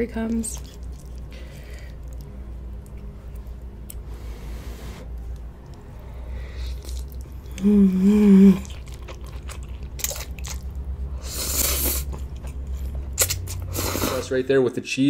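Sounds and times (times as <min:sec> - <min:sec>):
wet chewing and slurping: 0:00.3 - 0:04.1, 0:04.8 - 0:14.3.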